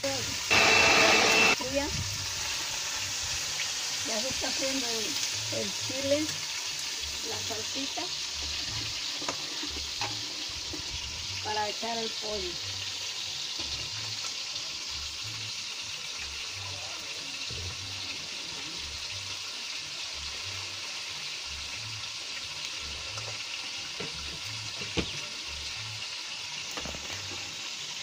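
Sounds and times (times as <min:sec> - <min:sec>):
chicken sizzling in pan: 0:00.0 - 0:28.0.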